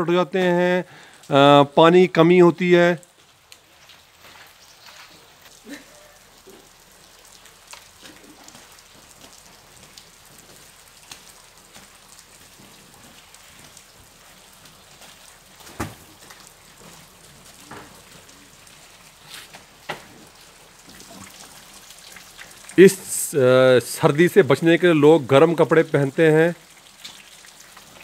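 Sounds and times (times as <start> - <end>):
wet snow dripping patter: 0.0 - 28.0.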